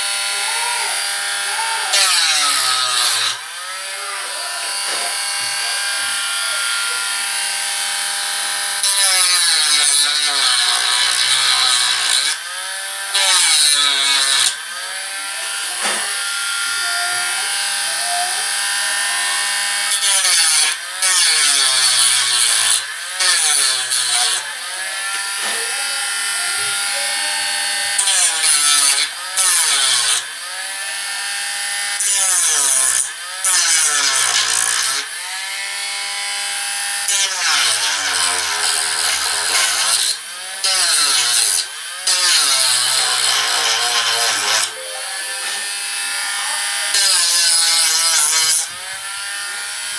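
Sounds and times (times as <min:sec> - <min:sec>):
rotary tool motor whining: 0:00.0 - 0:44.9, 0:45.6 - 0:49.9.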